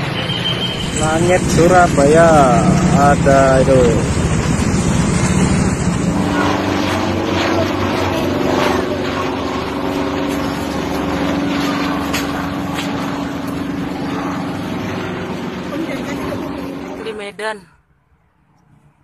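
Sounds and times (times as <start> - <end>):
constant low hum: 0.0 - 17.1
engine-like drone: 0.0 - 17.4.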